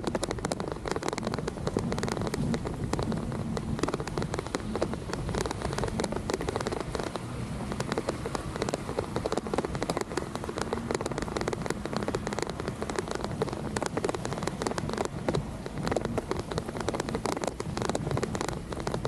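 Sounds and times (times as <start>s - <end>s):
raindrops ticking: 0.0s - 19.0s.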